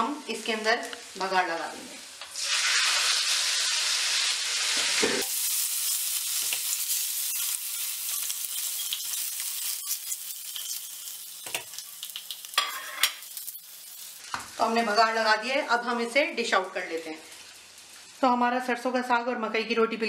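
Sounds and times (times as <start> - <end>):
hot ghee sizzling: 0.0 - 20.0.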